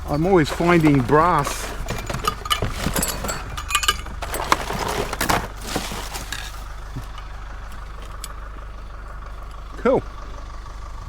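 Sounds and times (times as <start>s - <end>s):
scrap metal clinks and knocks: 0.0s - 9.7s
vehicle engine idling: 0.0s - 11.0s.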